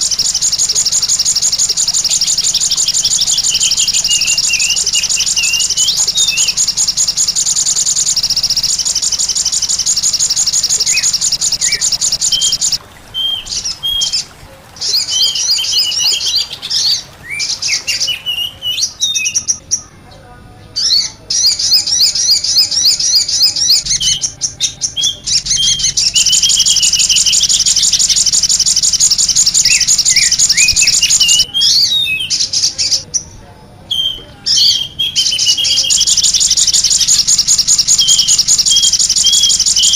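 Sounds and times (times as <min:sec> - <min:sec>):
bird slurred whistles: 0:00.0 - 0:14.2, 0:21.0 - 0:33.0, 0:34.0 - 0:39.9
songbirds twittering trills: 0:00.0 - 0:39.9.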